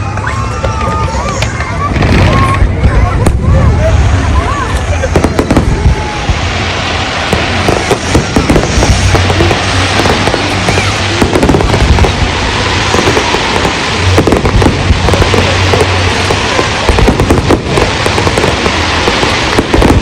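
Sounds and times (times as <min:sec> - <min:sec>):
fireworks crackling and popping: 0:00.0 - 0:20.0
fireworks bangs: 0:00.1 - 0:20.0.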